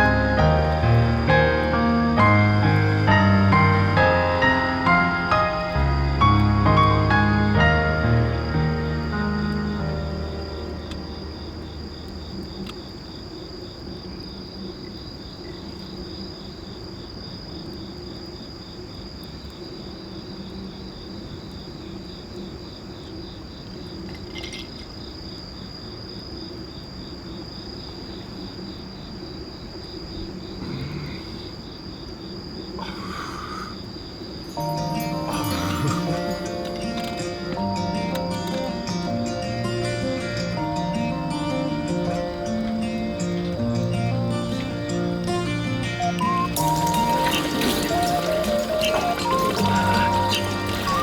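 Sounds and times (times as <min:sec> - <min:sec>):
crickets chirping: 0:00.0 - 0:51.0.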